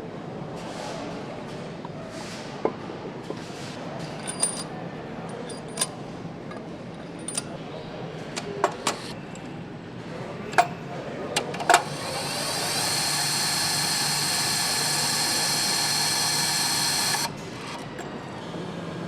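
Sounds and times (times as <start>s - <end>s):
factory background hum: 0.1s - 19.0s.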